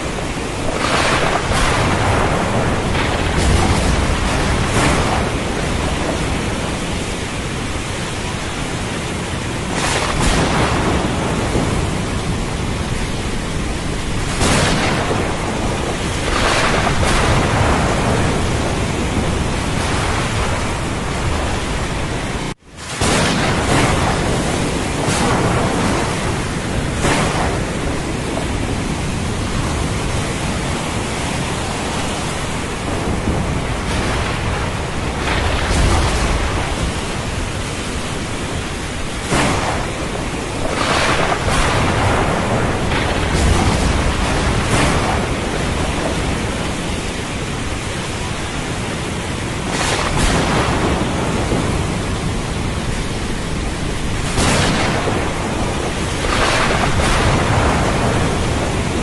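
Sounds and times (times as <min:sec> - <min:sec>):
heavy rain: 0:00.0 - 0:59.0
thunder: 0:00.0 - 0:59.0.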